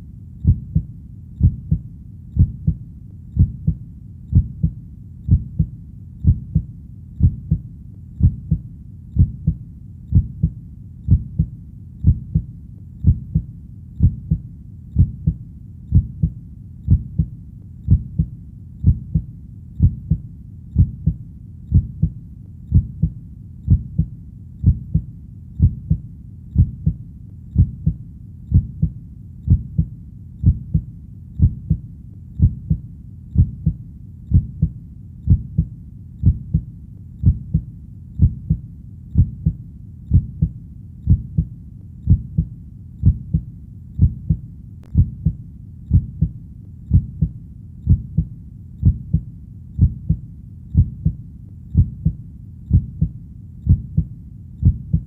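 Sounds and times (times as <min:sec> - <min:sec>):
faint steady hum: 0:00.0 - 0:55.0
heartbeat double thumps: 0:00.4 - 0:02.8, 0:03.4 - 0:55.0.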